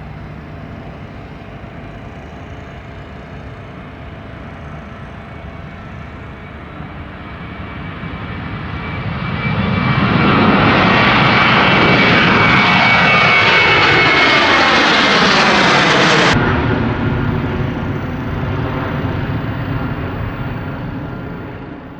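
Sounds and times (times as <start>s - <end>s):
airplane passing overhead: 0.0s - 21.9s.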